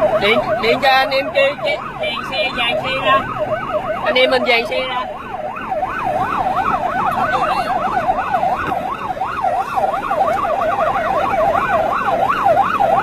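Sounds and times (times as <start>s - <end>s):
police sirens yelping: 0.0s - 13.0s
road and engine noise: 0.0s - 13.0s.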